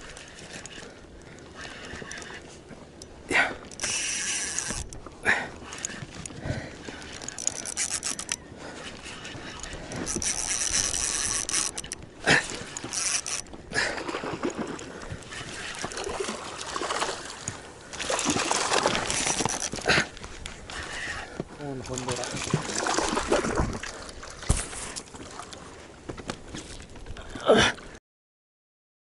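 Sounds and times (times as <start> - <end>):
water splashing around kayak: 0.0 - 28.0.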